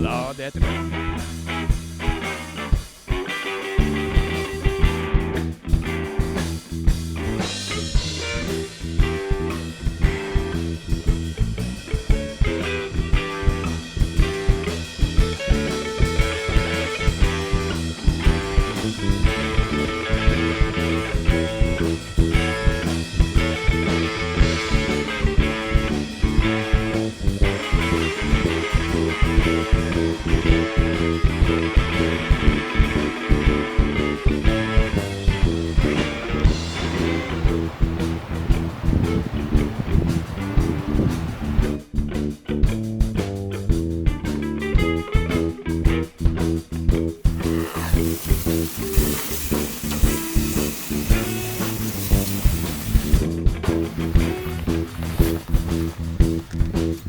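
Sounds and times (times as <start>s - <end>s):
guitar rock music with drums: 0.0s - 57.0s.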